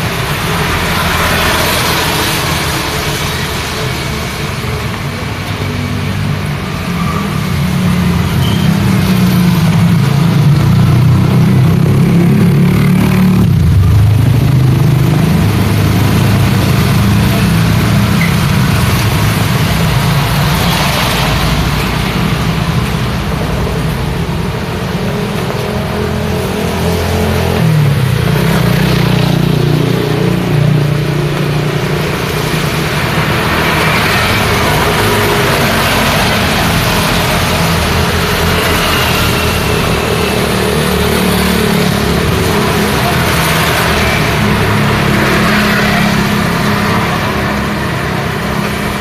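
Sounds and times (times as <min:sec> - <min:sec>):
rain and tyres on wet road: 0:00.0 - 0:49.0
vehicle engines passing: 0:00.0 - 0:49.0.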